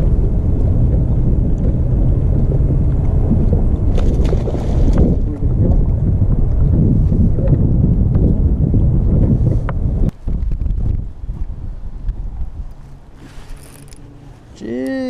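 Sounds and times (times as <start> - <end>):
strong wind buffeting microphone: 0.0 - 14.6.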